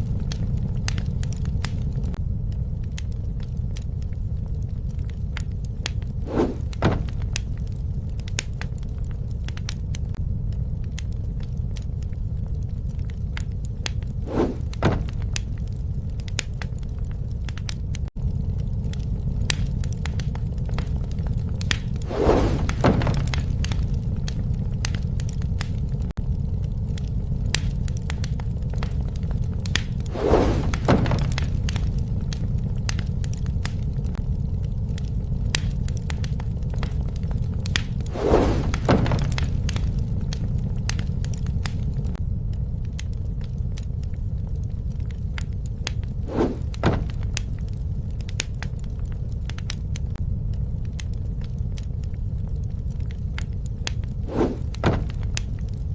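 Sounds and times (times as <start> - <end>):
bonfire crackling and popping: 0.0 - 55.9.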